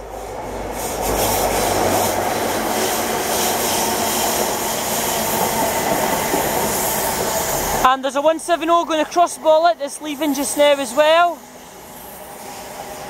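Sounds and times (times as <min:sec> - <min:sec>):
diesel locomotive rumble: 0:00.0 - 0:13.0
train wheels rushing on rails: 0:00.0 - 0:13.0.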